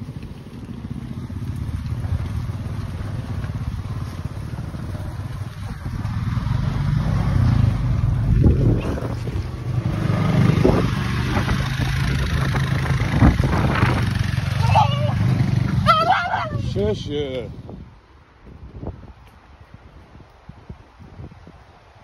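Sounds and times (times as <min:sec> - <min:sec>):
vehicle engines running slowly: 0:00.0 - 0:22.0.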